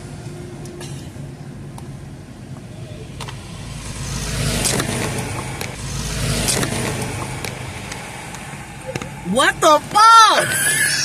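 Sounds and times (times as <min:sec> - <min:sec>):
car running from inside cabin: 0:01.8 - 0:11.0.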